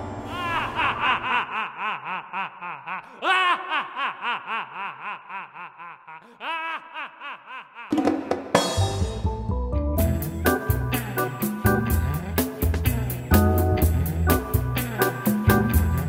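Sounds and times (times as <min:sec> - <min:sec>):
man laughing sinisterly: 0:00.3 - 0:08.2, 0:10.7 - 0:16.0.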